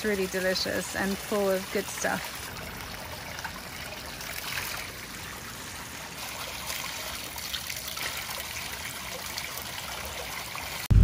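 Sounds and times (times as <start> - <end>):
water trickling into stone trough: 0.0 - 10.9.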